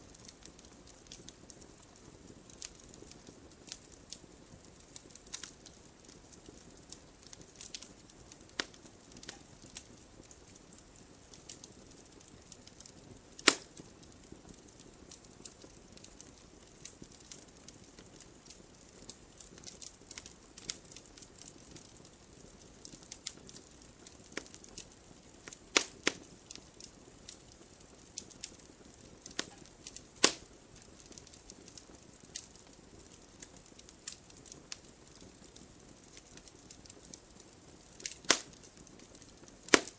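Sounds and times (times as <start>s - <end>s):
wood fire crackling: 0.0s - 39.9s
loud fire pops: 0.2s - 39.9s.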